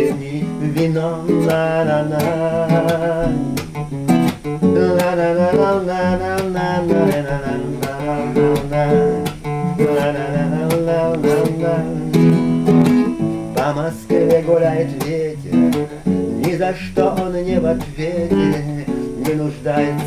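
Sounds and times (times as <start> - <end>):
acoustic guitar strumming: 0.0 - 20.0
person singing wordless melody: 0.0 - 20.0.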